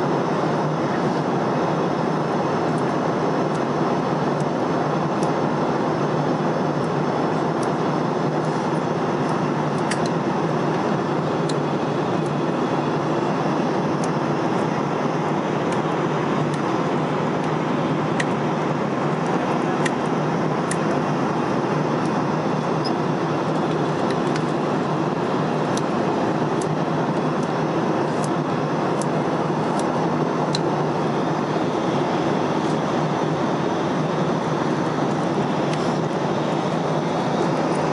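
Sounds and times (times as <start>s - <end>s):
airliner cabin engine noise: 0.0s - 37.9s.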